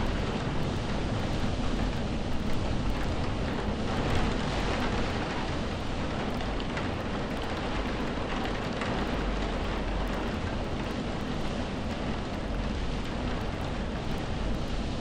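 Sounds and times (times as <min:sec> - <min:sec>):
rain drops ticking: 0:00.0 - 0:15.0
steady rain hiss: 0:00.0 - 0:15.0.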